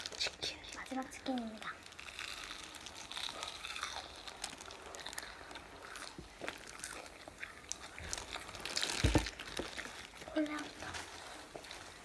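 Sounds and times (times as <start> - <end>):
crunchy chewing of fried chicken: 0.0 - 12.0.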